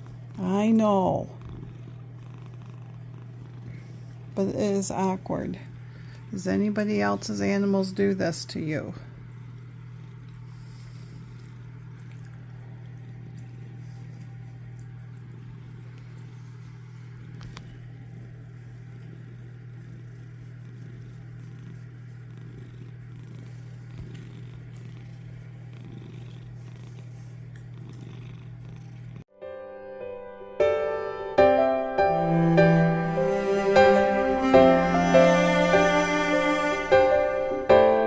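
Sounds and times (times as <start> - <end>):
cat purring: 0.0 - 29.3, 32.1 - 38.0.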